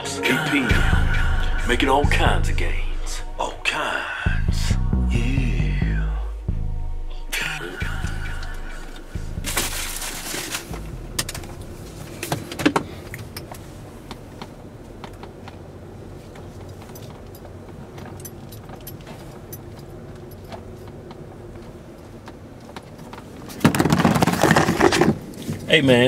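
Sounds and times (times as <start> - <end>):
car cabin low rumble: 0.6 - 23.8.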